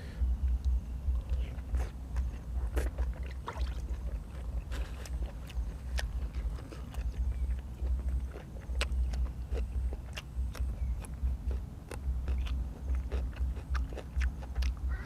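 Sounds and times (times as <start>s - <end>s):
low pulsing rumble: 0.0s - 15.0s
person chewing food: 0.5s - 15.0s.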